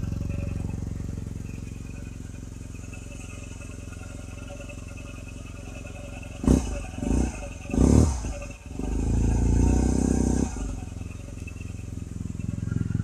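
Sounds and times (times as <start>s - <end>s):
scooter engine idling and revving: 0.0s - 13.0s.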